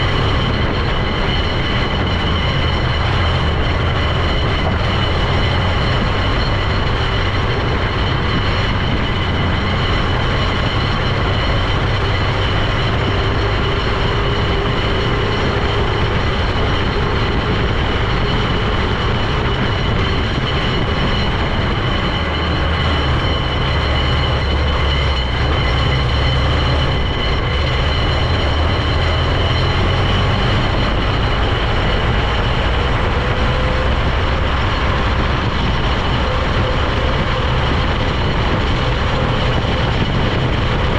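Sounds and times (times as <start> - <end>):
heavy engine rumble: 0.0 - 40.9
high-pitched whine: 0.0 - 40.9.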